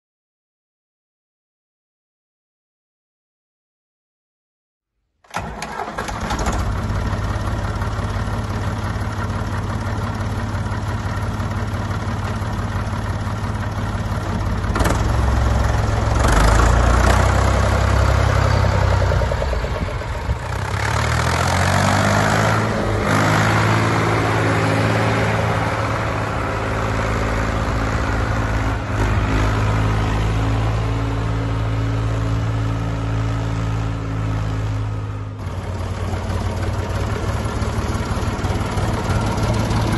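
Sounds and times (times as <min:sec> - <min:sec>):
tractor diesel engine: 0:05.3 - 0:39.9.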